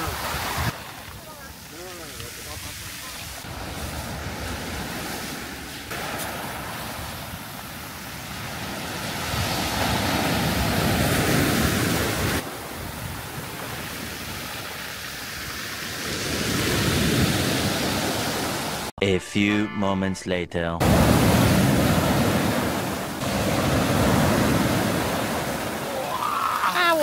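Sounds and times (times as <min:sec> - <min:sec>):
surf washing onto beach: 0:00.0 - 0:18.9, 0:20.8 - 0:27.0.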